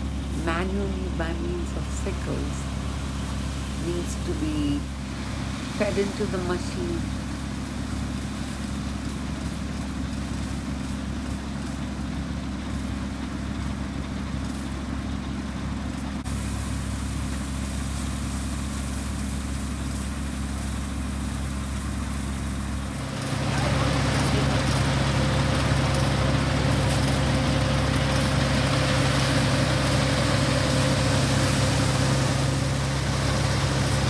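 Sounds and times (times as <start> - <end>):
harvesting machine engine humming: 0.0 - 34.0.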